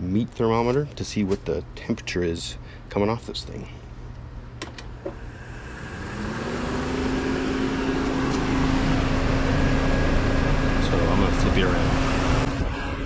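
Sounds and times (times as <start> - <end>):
cooler fan humming: 0.0 - 12.8.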